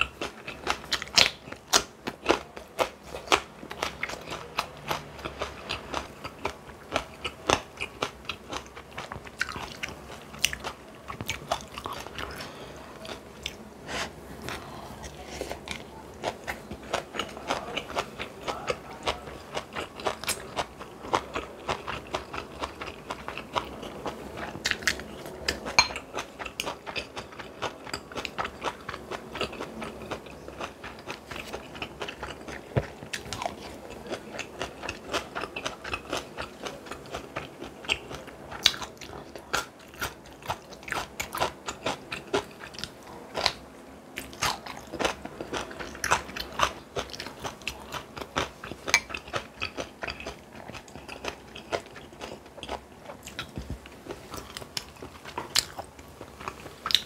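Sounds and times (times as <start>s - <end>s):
person chewing crunchy food: 0.0s - 57.0s.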